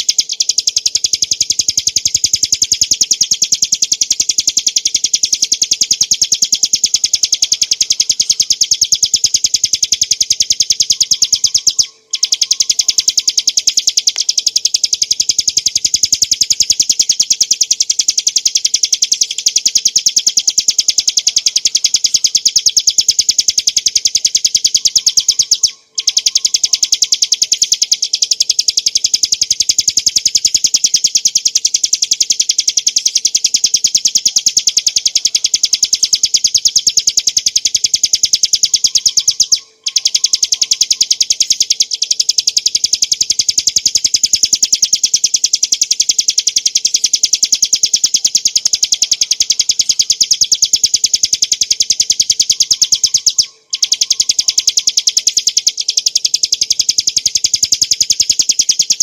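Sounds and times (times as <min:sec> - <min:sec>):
bird singing a fast trill: 0:00.0 - 0:59.0.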